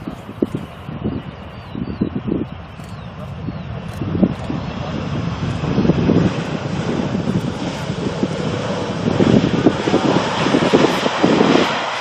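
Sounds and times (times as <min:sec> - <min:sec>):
jet engines passing: 0:00.0 - 0:12.0
wind buffeting microphone: 0:00.0 - 0:12.0.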